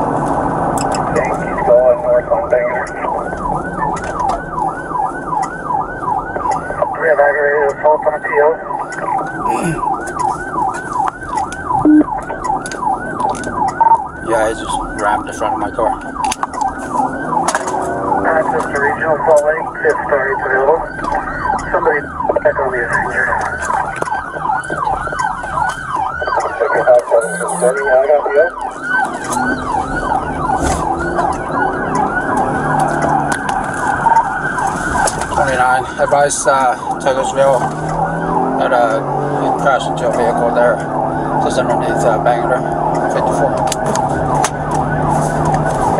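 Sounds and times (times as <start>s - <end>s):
police siren wailing: 0.0s - 45.9s.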